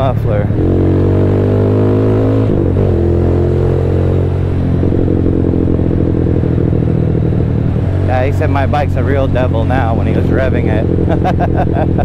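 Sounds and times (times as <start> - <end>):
loud motorcycle engine riding: 0.0 - 12.0.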